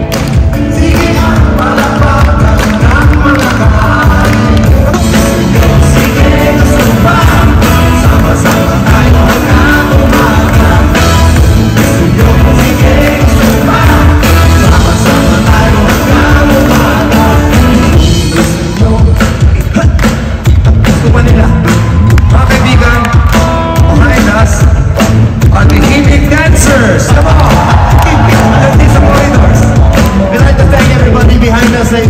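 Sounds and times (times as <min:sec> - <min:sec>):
bass guitar: 0:00.0 - 0:32.0
drums: 0:00.0 - 0:32.0
man singing: 0:00.0 - 0:32.0.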